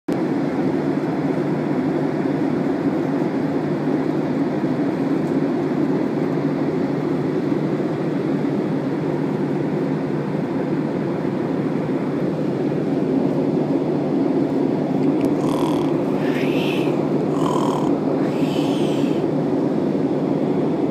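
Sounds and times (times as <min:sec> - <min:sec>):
airliner cabin drone: 0:00.1 - 0:20.9.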